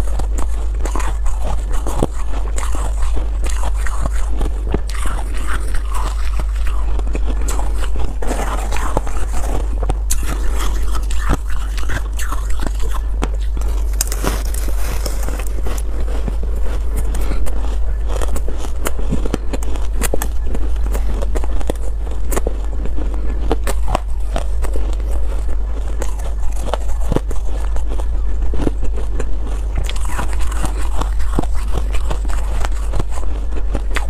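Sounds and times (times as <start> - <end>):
crunching and chewing ice: 0.0 - 34.0
steady low hum: 0.0 - 34.0.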